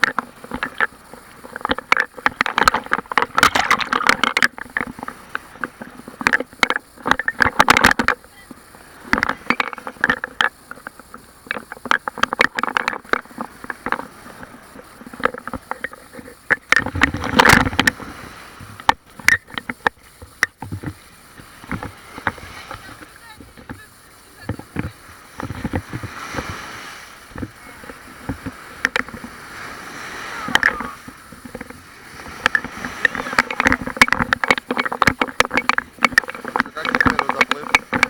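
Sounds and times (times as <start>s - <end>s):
waves splashing and breaking: 0.0s - 38.0s.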